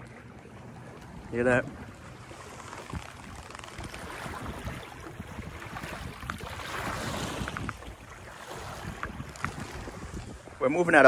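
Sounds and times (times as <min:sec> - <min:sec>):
water rushing along a hull: 0:00.0 - 0:11.0
wind on microphone: 0:01.1 - 0:11.0.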